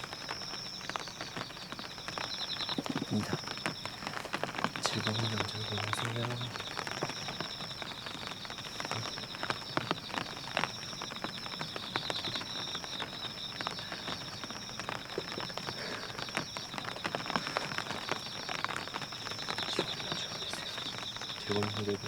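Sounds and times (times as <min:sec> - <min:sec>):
heavy rain on a tent: 0:00.0 - 0:22.0
raindrops ticking on fabric: 0:00.0 - 0:22.0.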